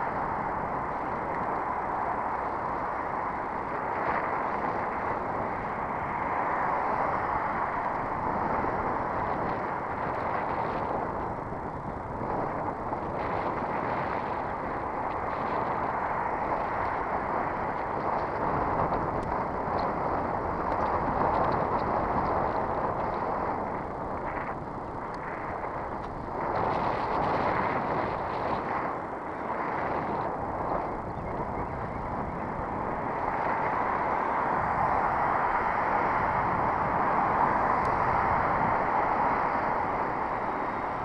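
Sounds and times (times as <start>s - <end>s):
bicycle road noise: 0.0s - 41.0s
rushing wind: 0.0s - 41.0s.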